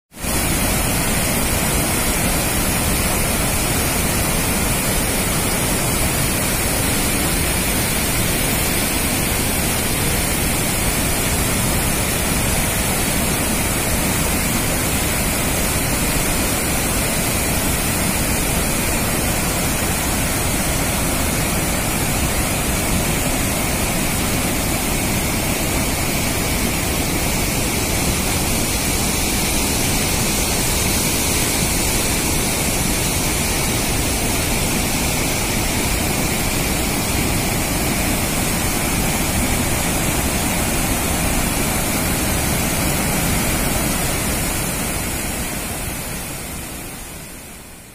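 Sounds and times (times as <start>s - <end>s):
waterfall crashing over rocks: 0.1s - 47.9s.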